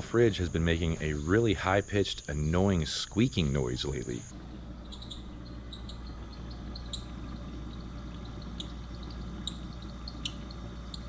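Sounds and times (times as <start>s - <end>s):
fridge fan motor squeaking: 0.0s - 11.0s
fridge low hum: 0.0s - 11.0s.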